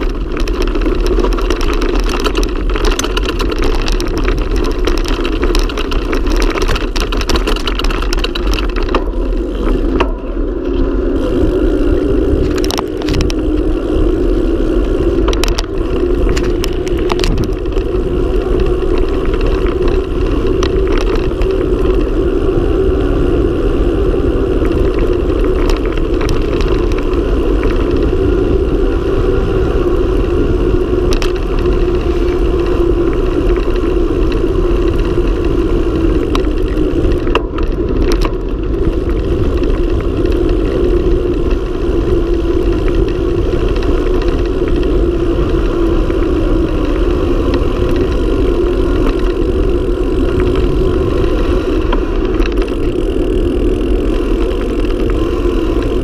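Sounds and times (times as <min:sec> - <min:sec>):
bicycle road noise: 0:00.0 - 0:56.0
wind rush: 0:00.0 - 0:56.0.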